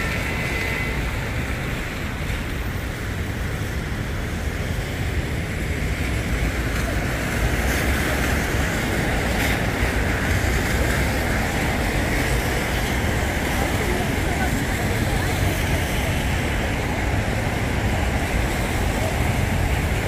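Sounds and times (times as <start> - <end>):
car tyres on wet road: 0.0 - 20.0
low rumble of traffic: 0.0 - 20.0.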